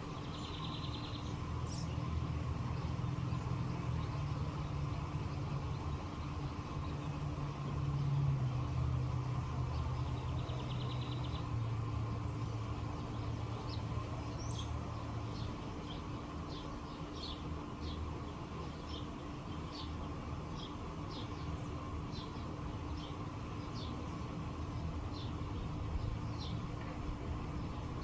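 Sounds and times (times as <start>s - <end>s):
low rumble of distant traffic: 0.0s - 28.0s
small birds chirping: 0.0s - 28.0s.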